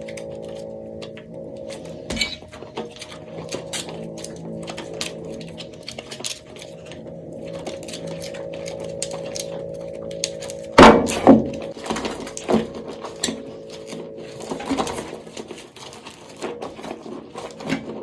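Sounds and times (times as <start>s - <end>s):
steady low hum: 0.0s - 17.6s
soap crackling clicks: 0.0s - 17.8s.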